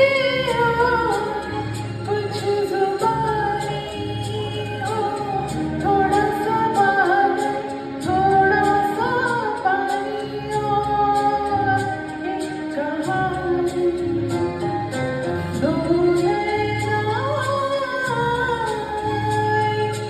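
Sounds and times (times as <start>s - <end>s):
backing music with steady beat: 0.0s - 20.0s
live film song with melody: 0.0s - 20.0s.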